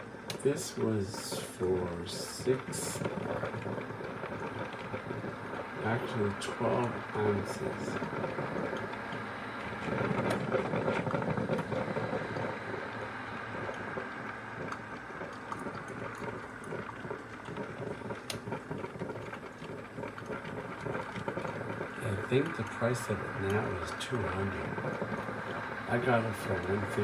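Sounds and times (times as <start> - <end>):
coffee maker brewing: 0.0 - 27.0.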